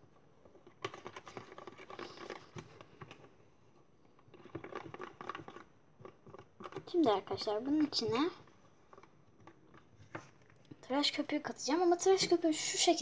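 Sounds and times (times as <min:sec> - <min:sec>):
stirrer scraping plastic tub: 0:00.0 - 0:10.8, 0:11.8 - 0:13.0.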